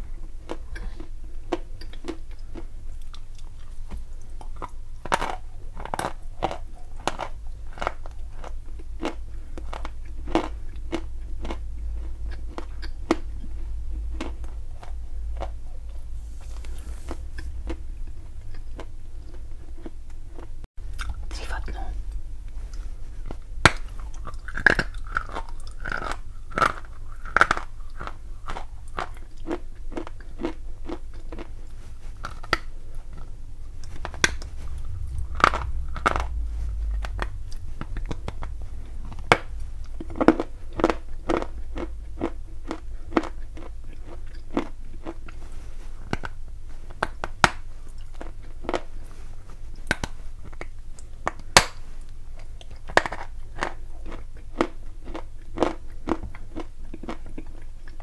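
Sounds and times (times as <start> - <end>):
chalk crunching while chewed: 0.4 - 48.9, 49.7 - 58.0.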